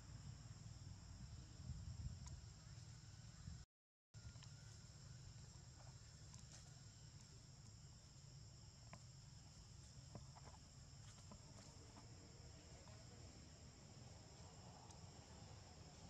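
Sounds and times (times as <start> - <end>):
insects droning: 0.0 - 3.6, 4.2 - 16.0.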